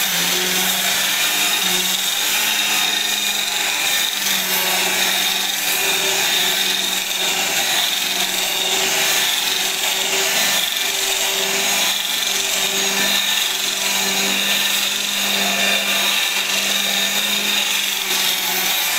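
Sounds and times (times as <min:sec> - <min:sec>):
angle grinder motor whine: 0:00.0 - 0:18.9.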